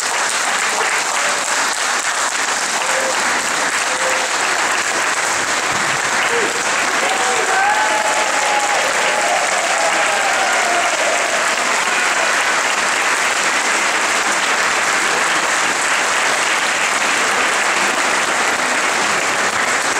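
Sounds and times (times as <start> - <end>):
audience applause: 0.0 - 19.9.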